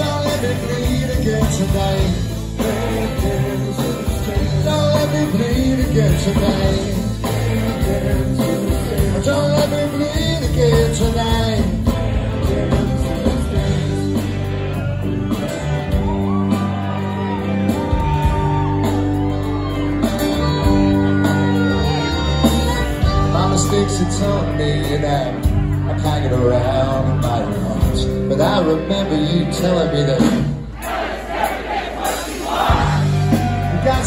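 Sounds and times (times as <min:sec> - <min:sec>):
live rock band playing: 0:00.0 - 0:34.0.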